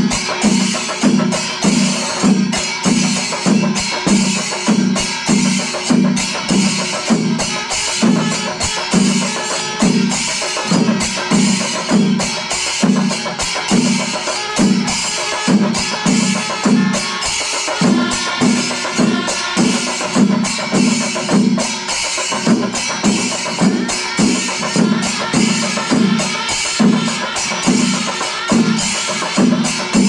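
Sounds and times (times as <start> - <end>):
cymbals clashing: 0.0 - 30.0.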